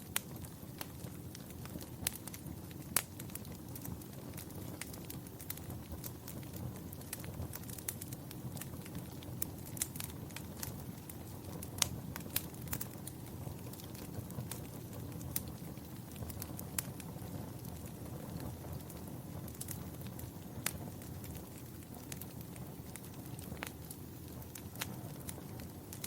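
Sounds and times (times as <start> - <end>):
sharp pops of fire: 0.0 - 26.0
wood fire crackling: 0.0 - 26.0.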